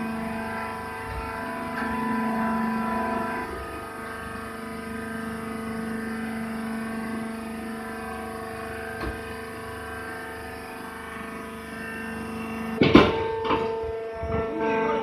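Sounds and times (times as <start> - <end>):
electric motor and pump humming: 0.0 - 15.0.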